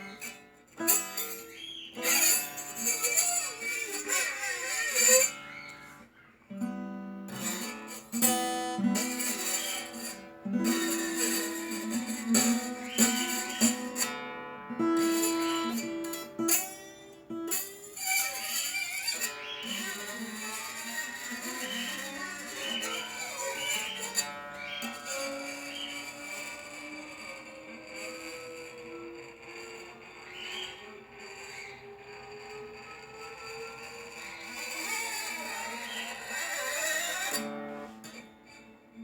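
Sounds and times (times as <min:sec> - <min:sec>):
acoustic guitar: 0:00.0 - 0:30.8, 0:34.1 - 0:39.0.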